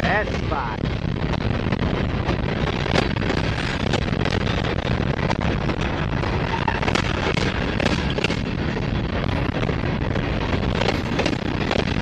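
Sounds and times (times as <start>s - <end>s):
clicks and clanks from train cars: 0.0s - 12.0s
train wheels rumbling on rails: 0.0s - 12.0s.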